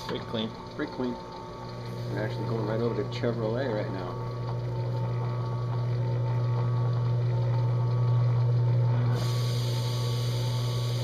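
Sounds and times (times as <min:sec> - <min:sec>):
drill press motor humming: 0:00.0 - 0:11.0.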